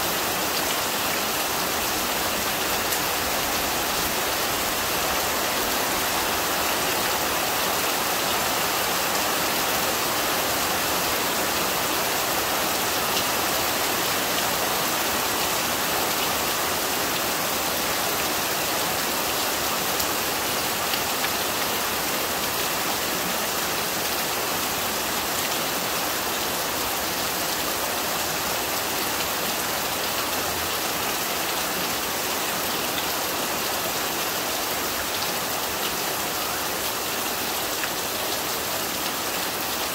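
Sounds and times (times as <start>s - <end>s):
heavy rain on wet ground: 0.0s - 39.9s.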